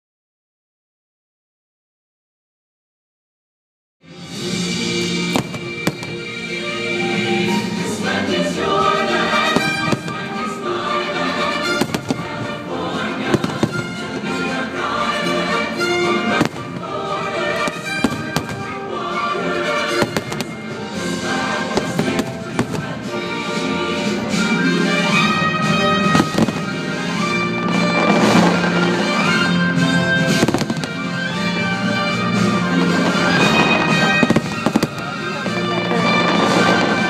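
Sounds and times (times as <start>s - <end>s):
orchestral music over loudspeakers: 4.0s - 37.0s
firework bursts: 4.2s - 37.0s.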